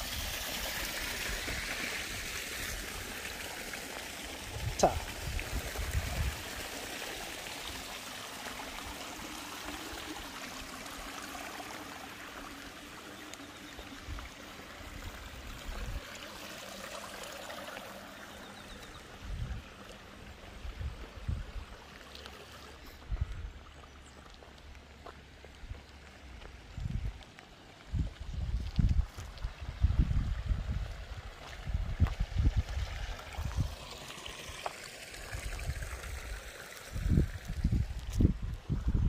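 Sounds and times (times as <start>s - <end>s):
water trickling down stone channel: 0.0s - 39.0s.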